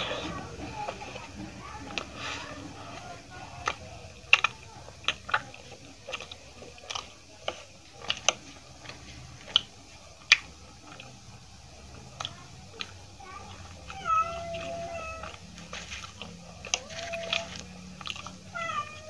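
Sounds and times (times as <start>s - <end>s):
chewing with mouth clicks: 0.0s - 18.8s.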